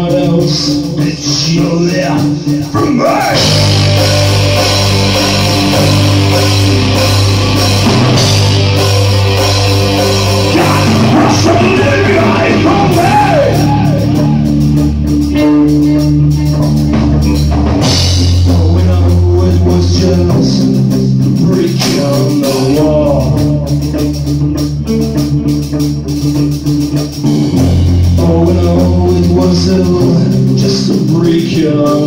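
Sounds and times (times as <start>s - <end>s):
person singing: 0.0s - 16.1s, 18.4s - 24.3s, 28.1s - 32.0s
rock band playing live: 0.0s - 32.0s.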